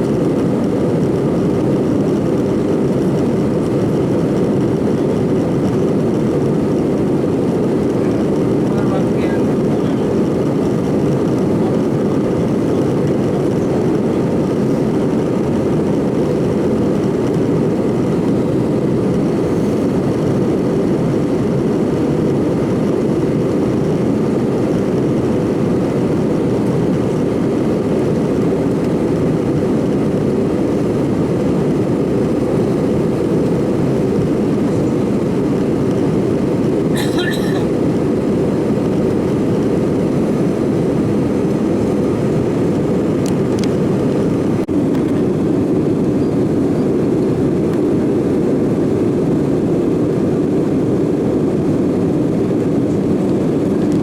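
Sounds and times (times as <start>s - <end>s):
airplane cabin roar: 0.0s - 54.0s.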